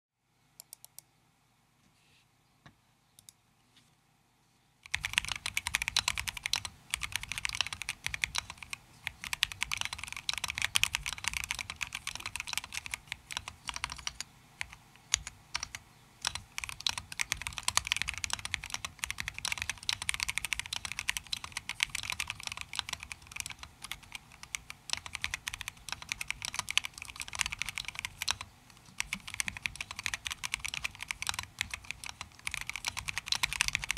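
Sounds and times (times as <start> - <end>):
typing on mechanical keyboard: 4.8 - 33.9.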